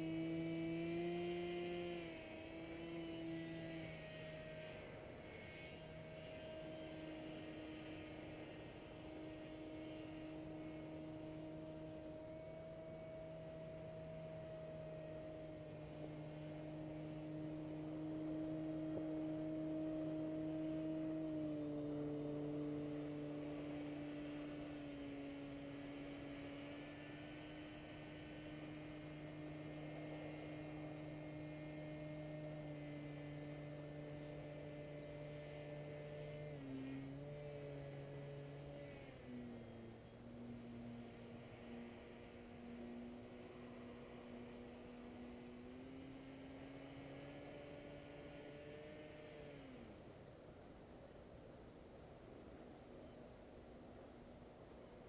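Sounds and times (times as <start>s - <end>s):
distant paramotor engine humming: 0.0s - 55.0s.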